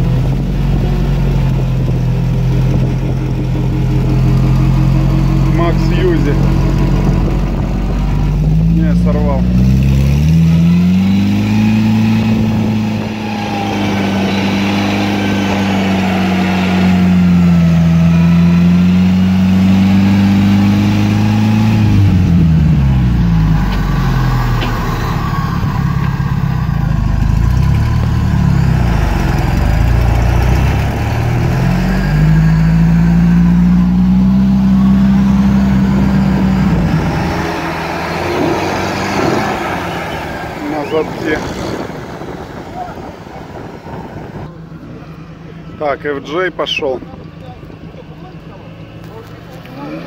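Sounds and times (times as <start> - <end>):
off-road engine revving hard: 0.0 - 44.4, 48.8 - 50.0.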